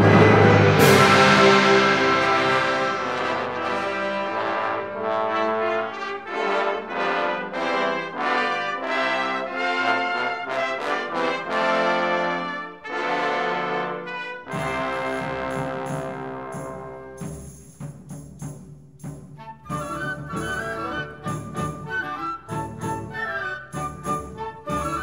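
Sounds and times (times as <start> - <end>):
wind band playing chords: 0.0 - 17.4, 19.6 - 25.0.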